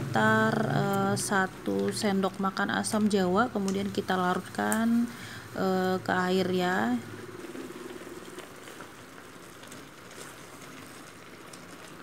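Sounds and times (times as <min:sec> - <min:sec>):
faint crackles: 0:00.0 - 0:12.0.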